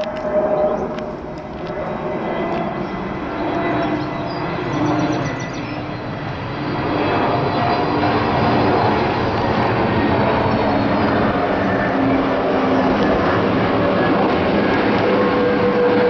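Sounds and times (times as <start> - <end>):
faint jet engine whine: 0.0 - 16.0
jet airliner engines rumbling: 0.0 - 16.0.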